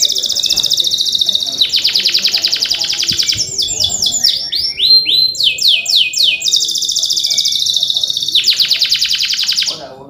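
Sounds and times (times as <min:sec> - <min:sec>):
canary singing trills: 0:00.0 - 0:10.0.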